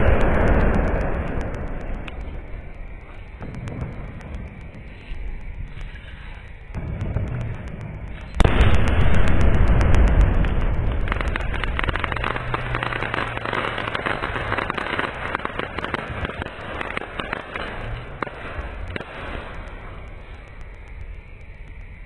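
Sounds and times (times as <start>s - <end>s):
firework crackling: 0.0s - 22.0s.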